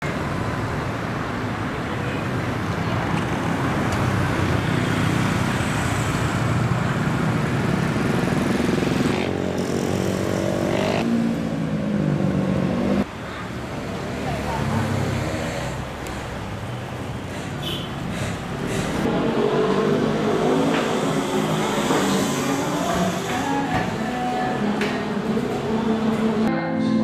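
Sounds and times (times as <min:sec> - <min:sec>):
traffic noise: 0:00.0 - 0:26.6.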